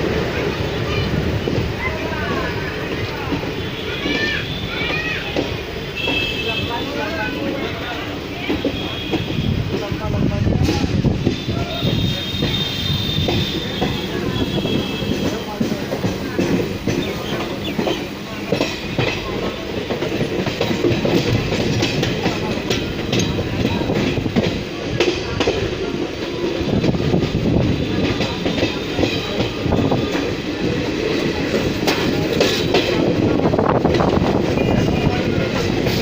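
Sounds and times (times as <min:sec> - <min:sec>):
train rumbling and rattling: 0:00.0 - 0:36.0
wheels clicking over rail joints: 0:00.0 - 0:36.0.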